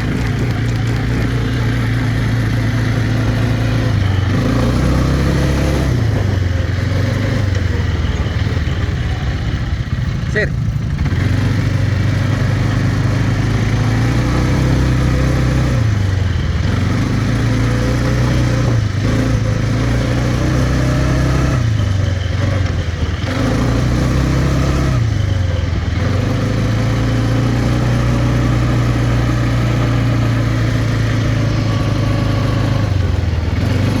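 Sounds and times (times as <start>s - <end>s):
quad bike engine revving: 0.0s - 34.0s.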